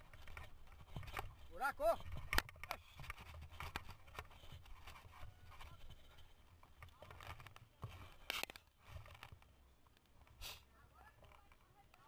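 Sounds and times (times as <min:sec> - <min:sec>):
bike clicks and rattles: 0:00.0 - 0:10.4.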